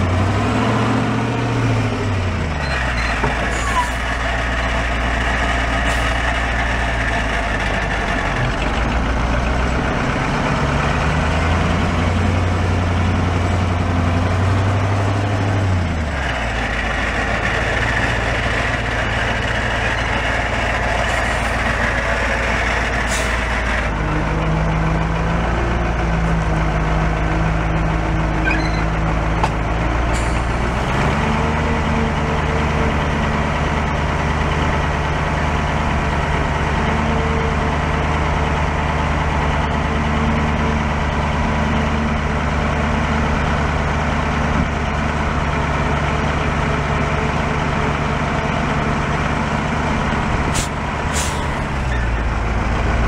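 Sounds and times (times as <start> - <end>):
diesel truck engine revving: 0.0 - 53.0.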